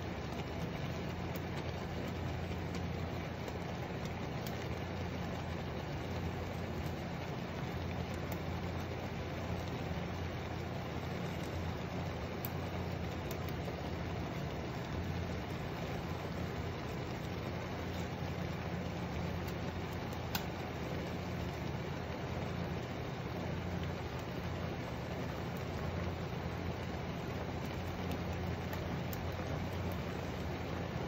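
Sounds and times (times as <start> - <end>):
water hissing in frying pan: 0.0 - 31.0.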